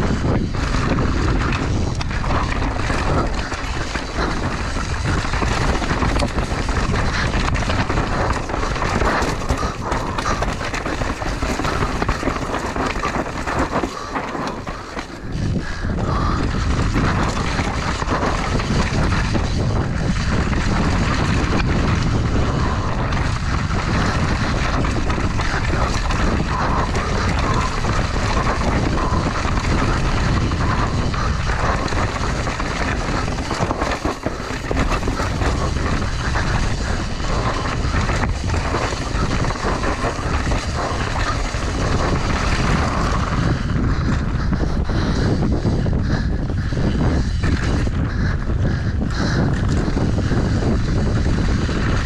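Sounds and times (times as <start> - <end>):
bike tyres over rock and dirt: 0.0 - 52.0
wind on microphone: 0.0 - 52.0.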